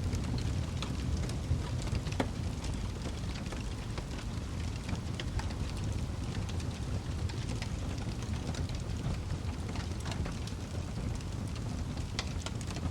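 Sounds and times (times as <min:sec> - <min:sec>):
wood fire crackling: 0:00.0 - 0:12.9.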